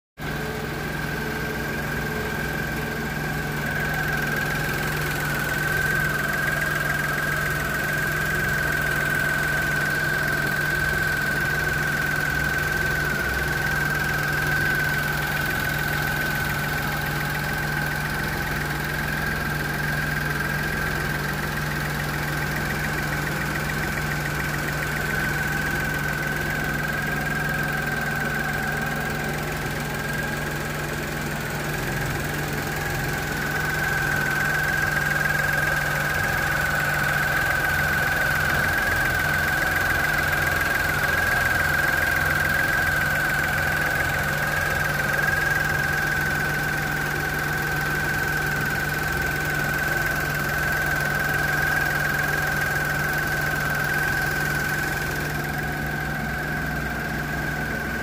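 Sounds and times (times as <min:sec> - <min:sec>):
car engine idling: 0:00.2 - 0:58.0.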